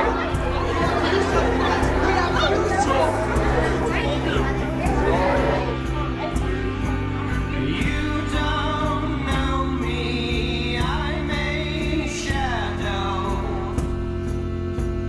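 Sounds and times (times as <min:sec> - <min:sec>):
wordless singing voice: 0:00.0 - 0:14.0
sustained low chords: 0:00.0 - 0:15.0.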